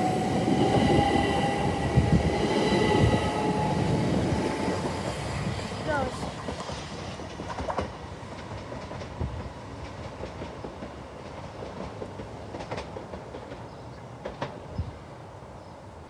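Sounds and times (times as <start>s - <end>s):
train wheels rumbling and clicking: 0.0s - 15.1s.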